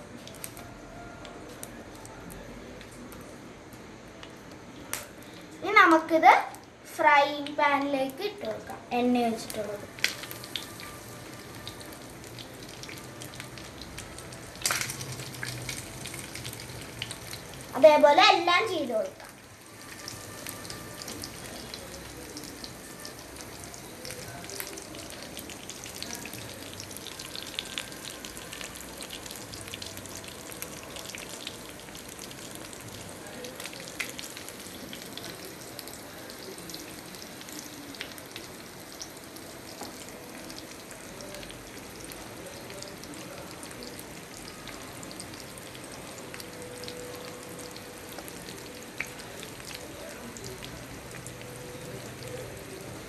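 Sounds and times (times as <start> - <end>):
fish sizzling in hot oil: 9.3 - 53.0.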